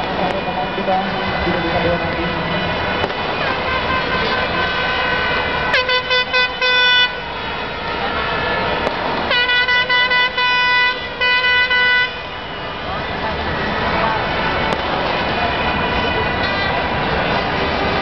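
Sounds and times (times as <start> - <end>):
stadium crowd noise: 0.0 - 18.0.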